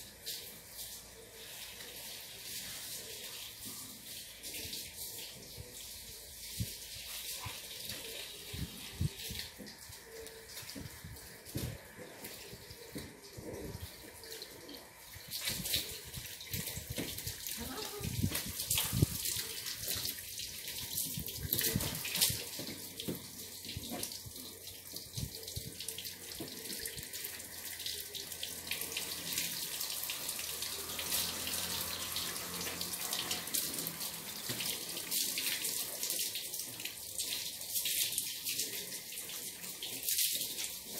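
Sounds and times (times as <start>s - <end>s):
hose water spraying on car: 0.0s - 40.9s.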